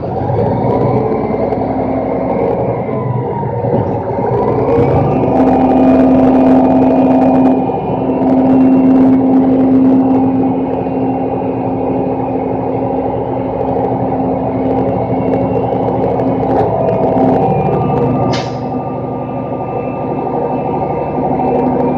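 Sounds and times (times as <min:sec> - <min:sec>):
garbage truck engine droning: 0:00.0 - 0:21.9.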